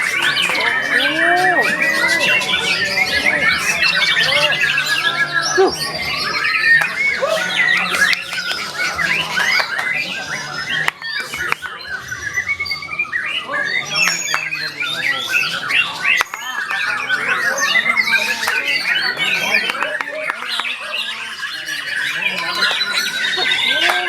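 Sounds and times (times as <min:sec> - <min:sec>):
songbird whistling and chattering: 0:00.0 - 0:24.0.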